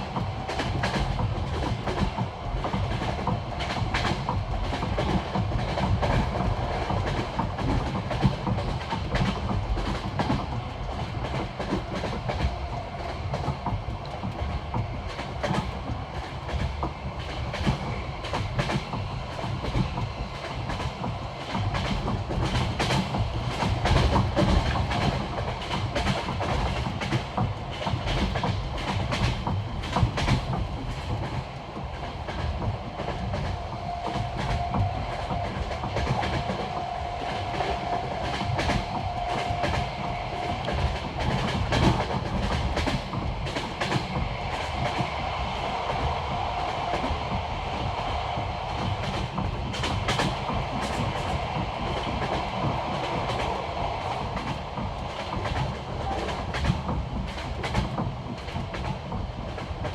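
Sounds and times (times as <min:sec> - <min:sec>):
train rumble: 0:00.0 - 0:59.9
train wheels clicking over rails: 0:00.0 - 0:59.9.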